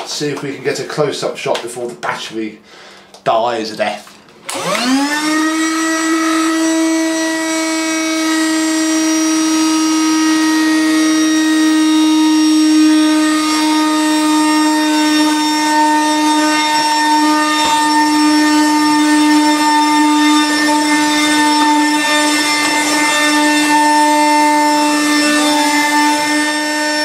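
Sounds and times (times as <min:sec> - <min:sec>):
floor sweeper motor whine: 0:04.5 - 0:27.0.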